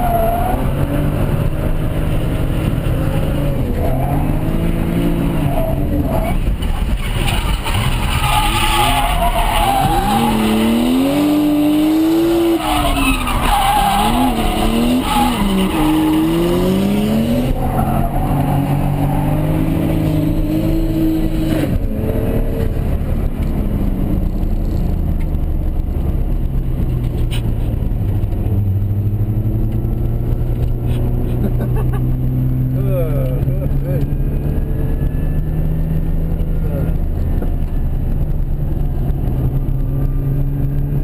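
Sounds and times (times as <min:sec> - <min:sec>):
tyres skidding: 0:00.0 - 0:34.4
car engine revving: 0:00.0 - 0:41.0.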